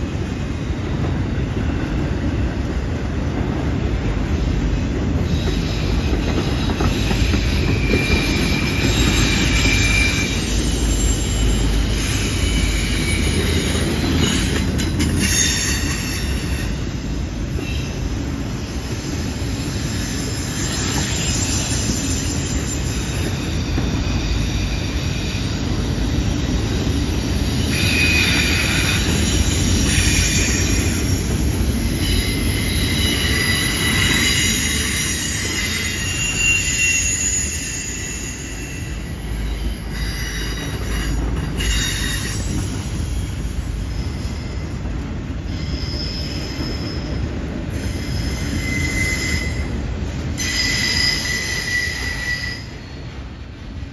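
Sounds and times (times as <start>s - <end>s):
train wheels rumbling on rail: 0.0s - 53.9s
high-pitched wheel squeal: 5.2s - 25.5s, 26.8s - 31.3s, 31.9s - 44.6s, 45.5s - 53.1s.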